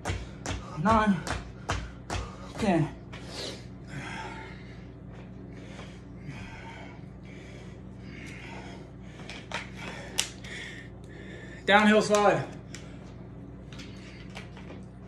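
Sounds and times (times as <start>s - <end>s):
man breathing heavily: 0.0s - 14.6s
low steady hum: 0.0s - 15.0s.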